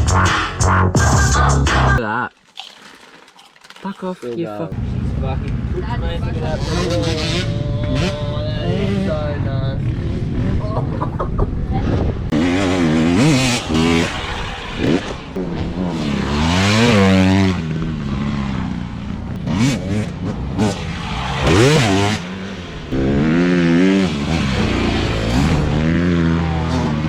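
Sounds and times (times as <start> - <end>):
motorbike engines revving: 4.7 - 27.0
motorbikes passing by: 4.8 - 27.0.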